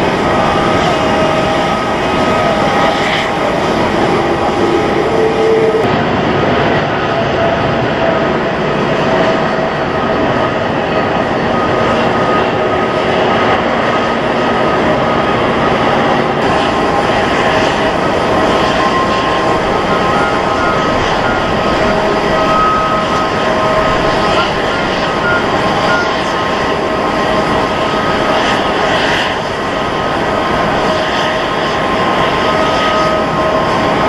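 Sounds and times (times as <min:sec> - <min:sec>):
jet engines rumbling and whining: 0:00.0 - 0:34.0.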